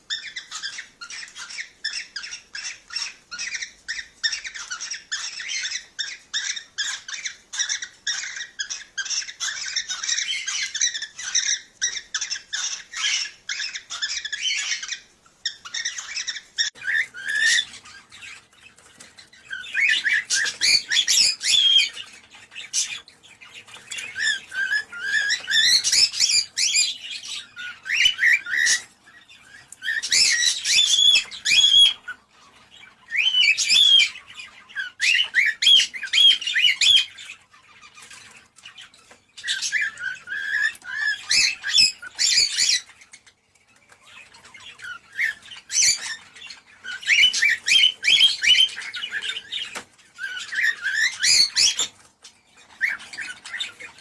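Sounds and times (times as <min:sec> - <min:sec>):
cockatiels chirping: 0:00.0 - 0:54.0.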